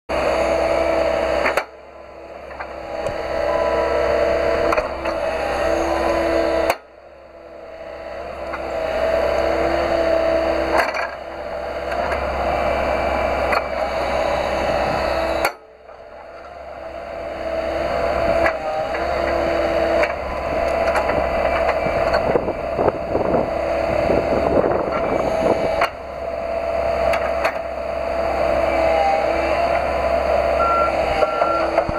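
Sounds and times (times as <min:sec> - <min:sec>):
excavator engine running: 0:00.1 - 0:31.9
hydraulic whine: 0:00.1 - 0:31.9.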